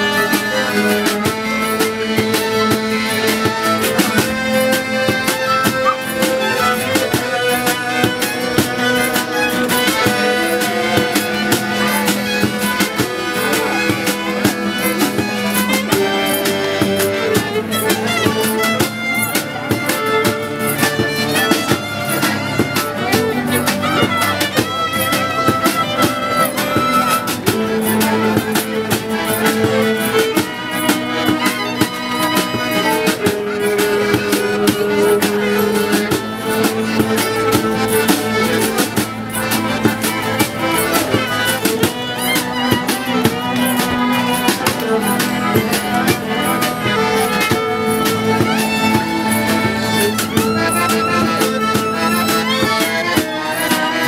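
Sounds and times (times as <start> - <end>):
bowed string melody: 0.0 - 54.0
steady drum beat: 0.0 - 54.0
street band playing lively tune: 0.0 - 54.0.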